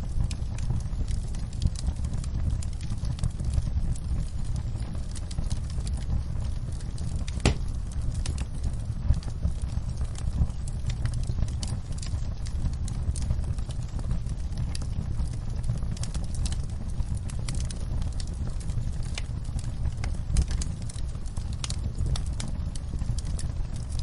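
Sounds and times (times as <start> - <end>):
fire crackling in a fireplace: 0.0 - 24.0.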